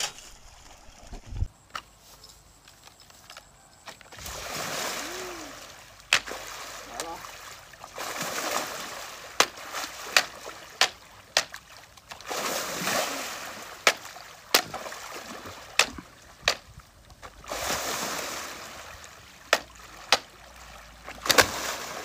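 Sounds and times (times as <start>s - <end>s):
water splashing and sloshing: 0.0s - 1.5s, 2.7s - 22.0s.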